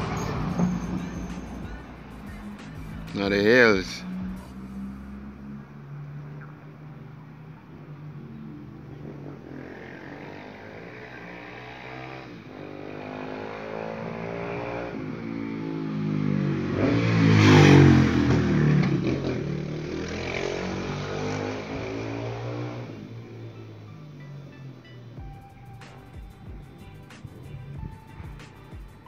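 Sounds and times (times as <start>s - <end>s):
vehicle engine passing by: 0.0s - 29.0s.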